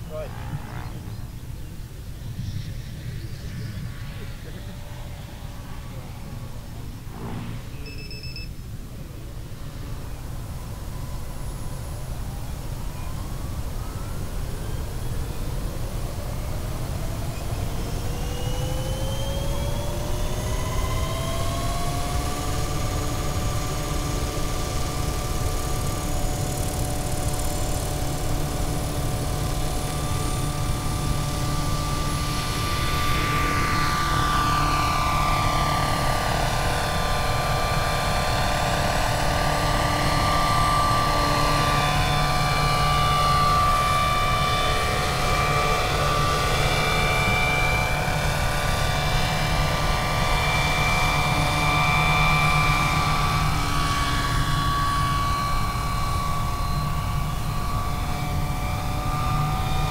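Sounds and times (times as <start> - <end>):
electric motor whine: 0.0 - 59.9
helicopter rotor noise: 0.0 - 59.9.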